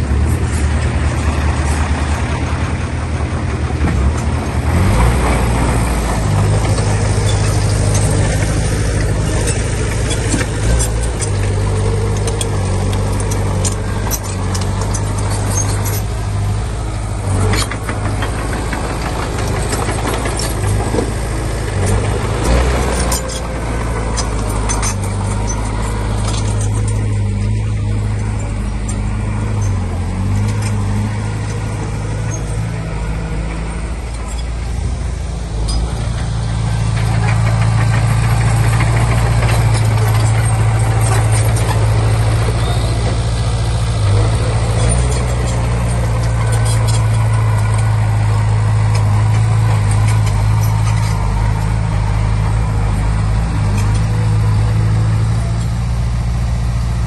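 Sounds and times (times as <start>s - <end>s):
bulldozer diesel engine running: 0.0s - 57.0s
sharp metal clanks and knocks: 5.3s - 16.6s, 17.2s - 55.8s.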